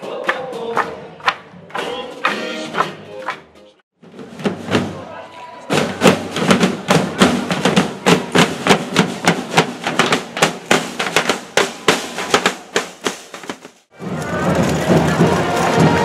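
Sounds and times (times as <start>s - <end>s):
side drums marching rhythm: 0.0s - 16.0s.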